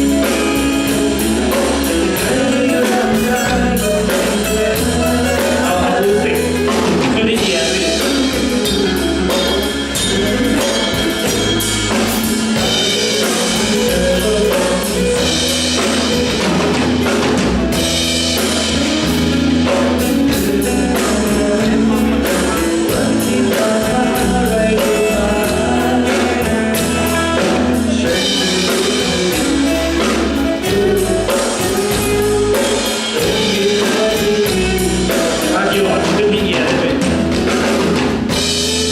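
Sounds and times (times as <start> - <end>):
person singing: 0.0 - 37.4
bass guitar: 0.0 - 38.9
drum kit: 0.0 - 38.9.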